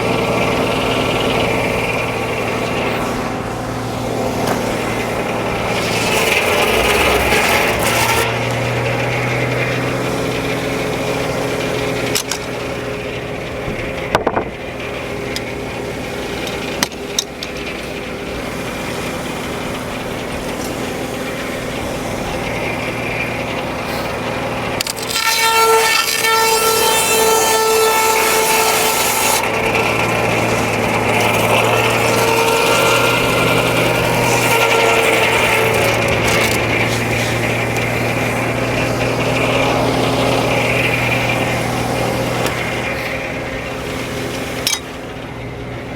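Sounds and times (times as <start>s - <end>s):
ringing whine: 0.0s - 45.9s
sawmill sawing a log: 0.0s - 45.9s.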